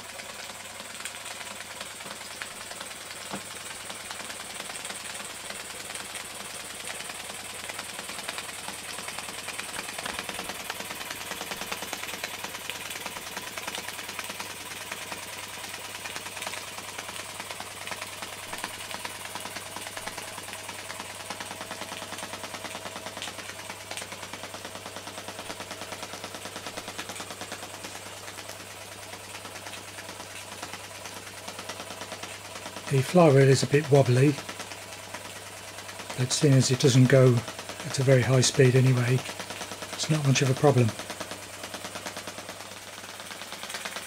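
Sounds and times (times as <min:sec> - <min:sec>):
toy steam engine puffing and clattering: 0:00.0 - 0:44.0.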